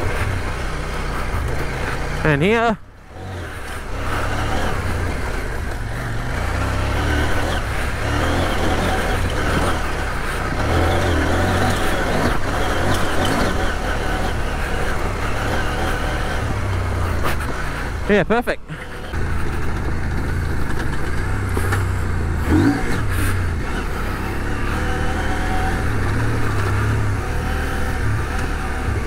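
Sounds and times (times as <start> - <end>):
motorcycle engine running at low revs: 0.0 - 29.0.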